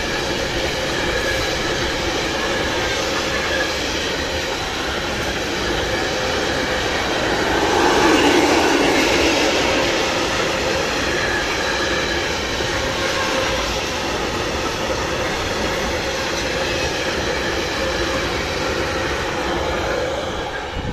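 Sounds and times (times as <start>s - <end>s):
train wheels on rails: 0.0s - 20.9s.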